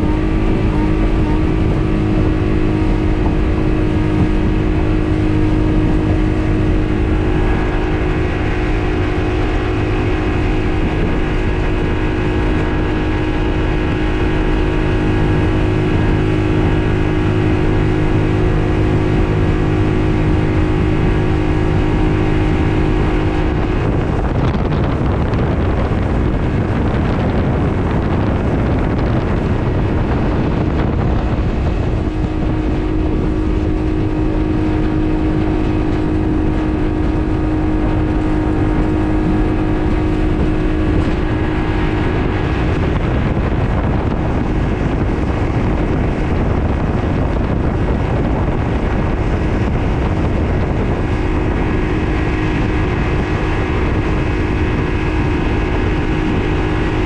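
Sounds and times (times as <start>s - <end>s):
outboard motor running: 0.0s - 57.0s
water rushing along hull: 0.0s - 57.0s
wind buffeting microphone: 0.0s - 57.0s.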